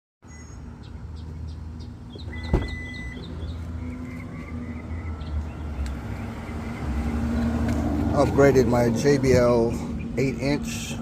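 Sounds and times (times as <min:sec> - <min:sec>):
car rumbling: 0:00.3 - 0:11.0.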